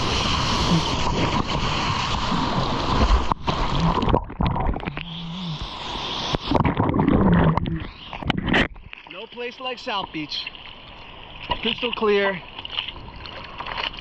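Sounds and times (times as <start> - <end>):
seawater splashing and gurgling: 0.0 - 14.0.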